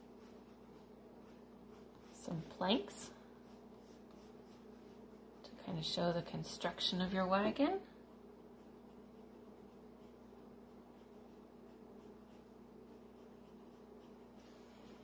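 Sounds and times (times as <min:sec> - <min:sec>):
pencil scratching on paper: 0:00.0 - 0:06.2, 0:07.1 - 0:15.0
low steady hum: 0:00.0 - 0:15.0.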